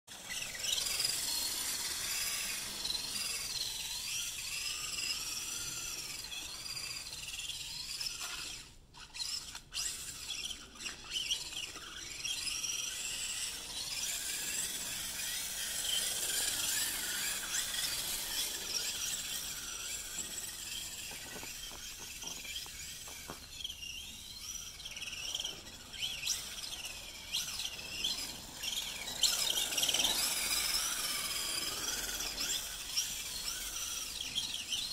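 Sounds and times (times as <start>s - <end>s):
rc truck motor whine: 0.1s - 34.9s.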